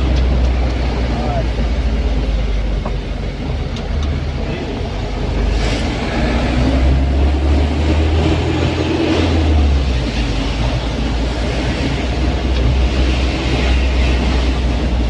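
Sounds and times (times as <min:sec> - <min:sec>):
diesel engine rumble: 0:00.0 - 0:15.0
road noise: 0:00.0 - 0:15.0.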